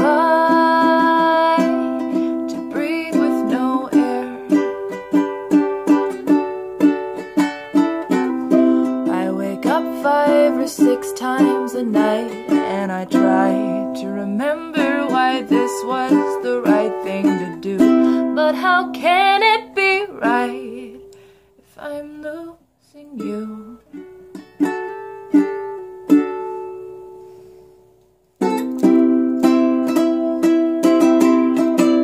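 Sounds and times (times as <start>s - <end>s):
ukulele strumming chords: 0.0s - 21.4s, 23.2s - 32.0s.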